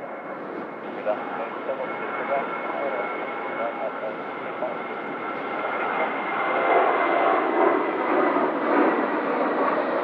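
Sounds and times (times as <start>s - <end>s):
jet engines rushing: 0.0s - 10.0s.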